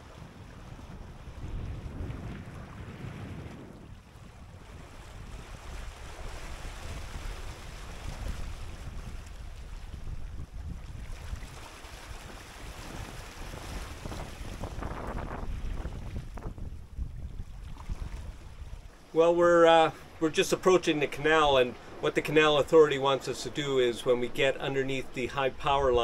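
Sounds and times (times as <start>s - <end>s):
water splashing along hull: 0.0s - 26.0s
wind buffeting microphone: 0.0s - 26.0s.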